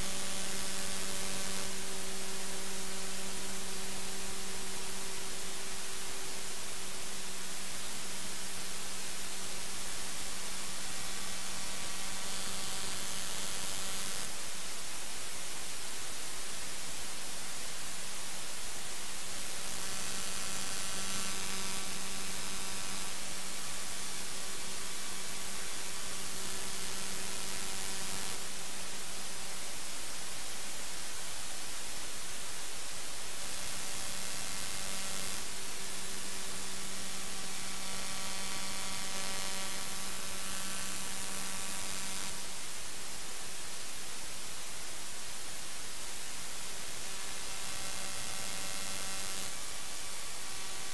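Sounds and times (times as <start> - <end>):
steady static hiss: 0.0 - 50.9.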